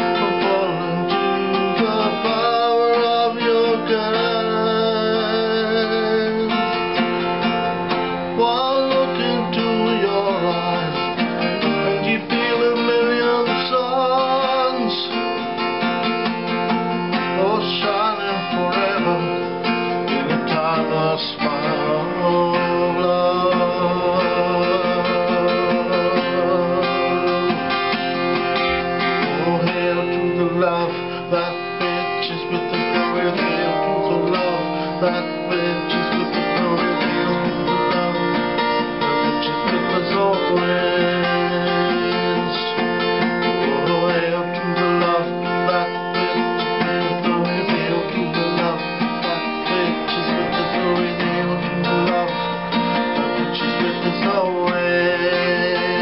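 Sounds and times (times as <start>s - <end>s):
acoustic guitar strummed: 0.0s - 56.0s
man singing: 0.0s - 56.0s.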